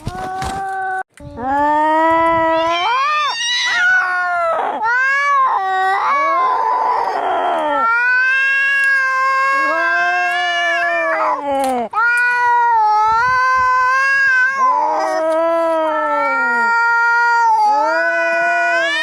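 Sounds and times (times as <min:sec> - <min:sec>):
cats yowling: 0:02.5 - 0:11.4, 0:12.0 - 0:19.0.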